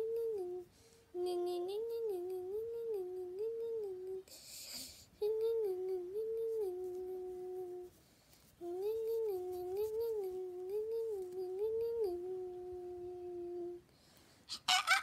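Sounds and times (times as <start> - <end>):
person humming: 0.0 - 8.0, 8.6 - 13.9.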